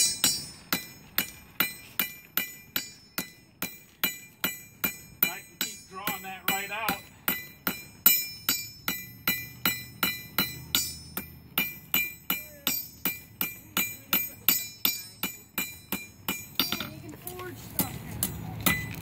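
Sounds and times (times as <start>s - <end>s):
hammer striking metal on anvil: 0.0s - 19.0s.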